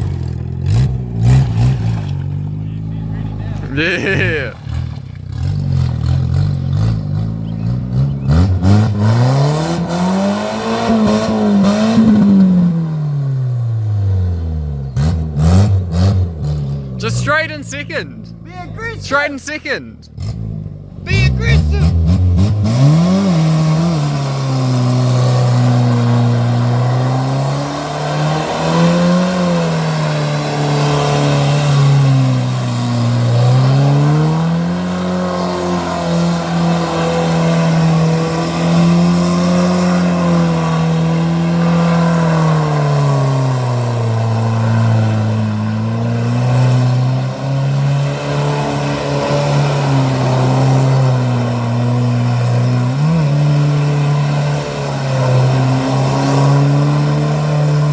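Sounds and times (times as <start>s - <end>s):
car engine revving hard: 4.3s - 14.0s, 15.0s - 16.9s, 21.8s - 57.9s.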